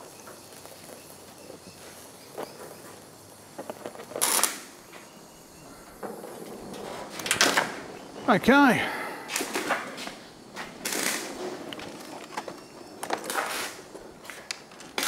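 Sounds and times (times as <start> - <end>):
welding torch hissing: 0.0 - 6.0, 6.6 - 15.0.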